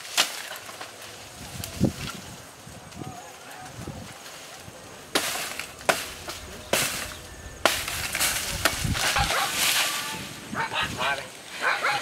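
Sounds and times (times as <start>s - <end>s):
dry leaves rustling: 0.0s - 12.0s.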